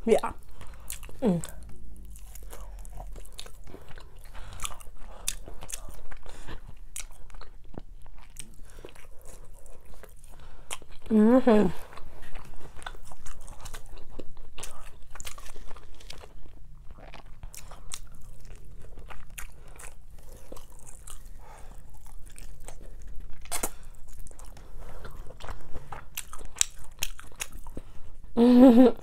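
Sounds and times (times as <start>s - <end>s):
chewing with mouth clicks: 0.4s - 11.1s, 11.8s - 28.2s.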